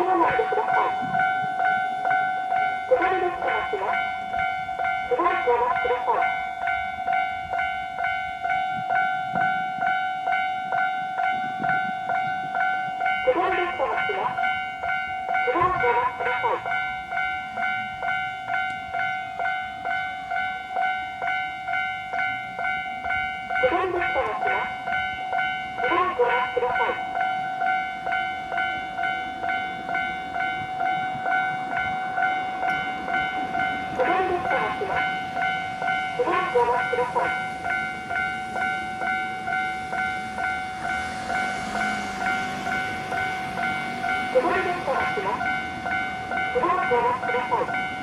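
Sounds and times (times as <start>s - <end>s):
level crossing warning bell dinging: 0.0s - 48.0s.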